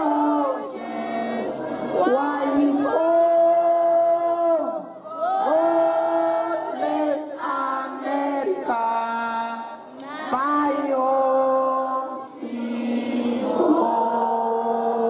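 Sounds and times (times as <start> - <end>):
crowd singing an anthem: 0.0 - 15.0.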